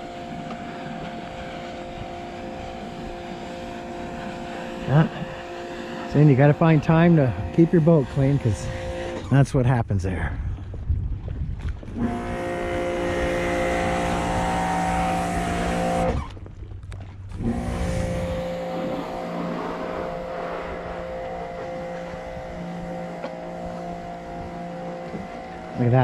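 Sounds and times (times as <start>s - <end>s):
engine humming steadily: 0.0s - 10.2s, 11.9s - 26.0s.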